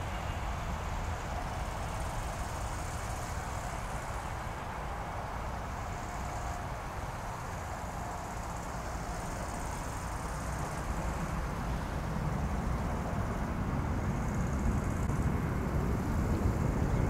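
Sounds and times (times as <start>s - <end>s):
jet engines at takeoff power: 0.0s - 17.0s.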